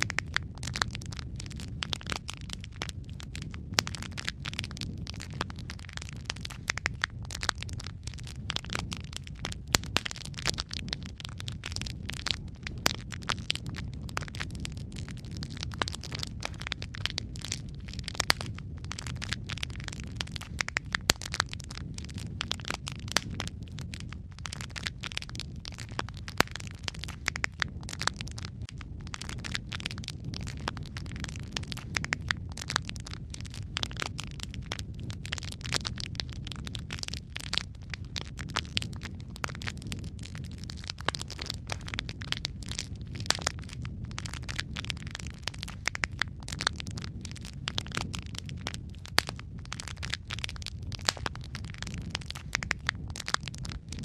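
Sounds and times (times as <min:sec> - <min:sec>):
low rumble of burning: 0:00.0 - 0:54.0
wood fire crackling and popping: 0:00.0 - 0:54.0.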